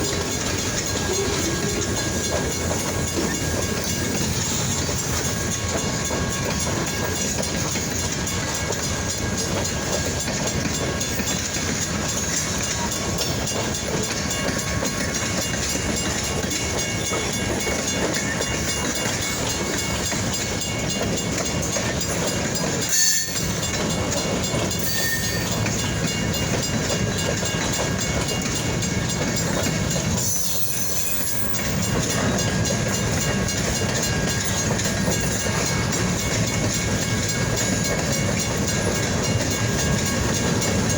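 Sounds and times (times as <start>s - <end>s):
freight train rumbling past: 0.0s - 40.9s
wheels clacking over rail joints: 0.0s - 40.9s.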